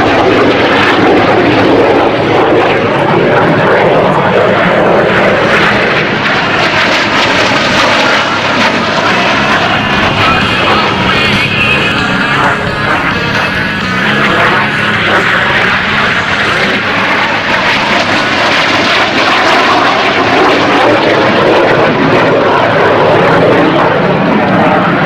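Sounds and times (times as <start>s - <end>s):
jets flying past: 0.0s - 25.0s.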